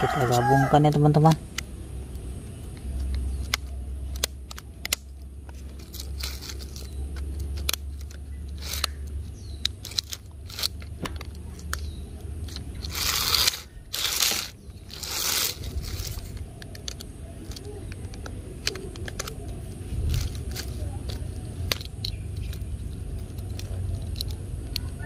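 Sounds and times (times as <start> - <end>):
low steady rumble: 0.0 - 25.0
plastic scraping on concrete: 0.0 - 25.0
plastic track pieces clicking: 0.1 - 25.0.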